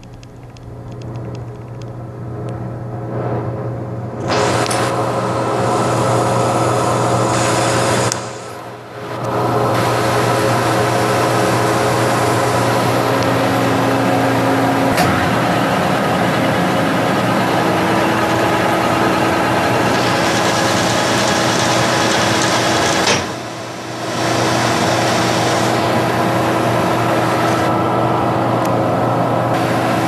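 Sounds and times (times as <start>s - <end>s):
lathe motor humming and whining: 2.1s - 30.0s.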